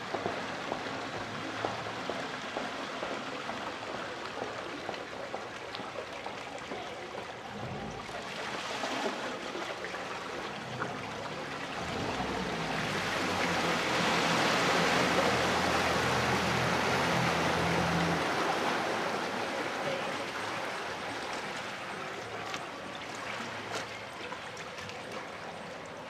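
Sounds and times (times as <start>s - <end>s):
water rushing and splashing: 0.0s - 26.0s.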